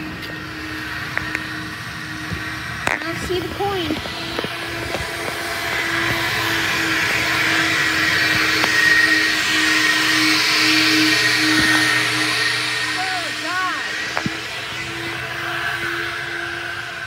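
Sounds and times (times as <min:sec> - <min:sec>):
rushing hissing air: 0:00.0 - 0:17.0
vacuum motor hum and whine: 0:00.0 - 0:17.0.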